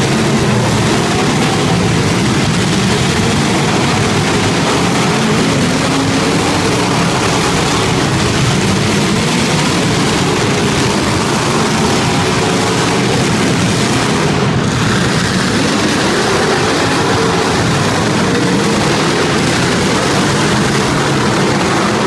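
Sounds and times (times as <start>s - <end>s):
car engines roaring at high revs: 0.0s - 22.0s.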